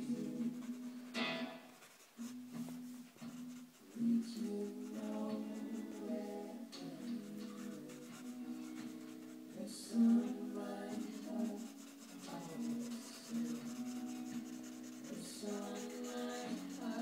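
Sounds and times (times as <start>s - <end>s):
background music with held notes: 0.0s - 17.0s
pencil scratching on paper: 1.7s - 17.0s.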